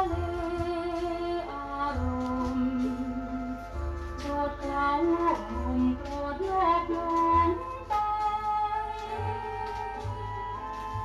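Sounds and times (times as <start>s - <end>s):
woman singing: 0.0s - 10.5s
band accompaniment: 0.0s - 11.0s.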